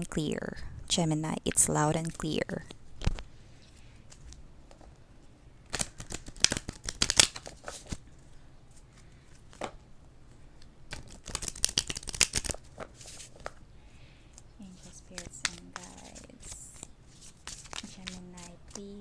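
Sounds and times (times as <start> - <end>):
cards being shuffled: 1.5 - 3.3, 4.0 - 8.0, 8.7 - 13.6, 14.3 - 19.0.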